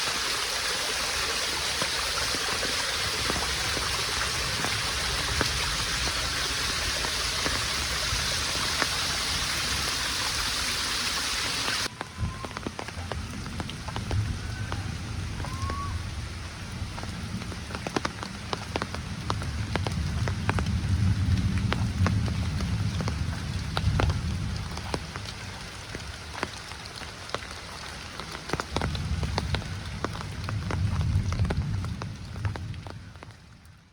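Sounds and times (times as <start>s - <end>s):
heavy rain falling: 0.0s - 33.9s
large raindrops ticking: 0.0s - 33.9s.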